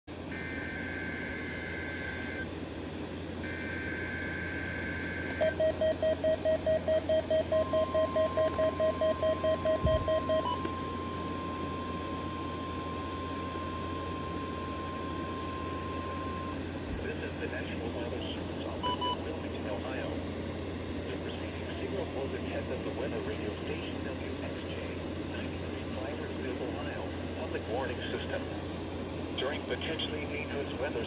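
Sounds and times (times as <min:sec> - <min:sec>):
steady attention tone: 0:00.3 - 0:02.5, 0:03.4 - 0:31.0.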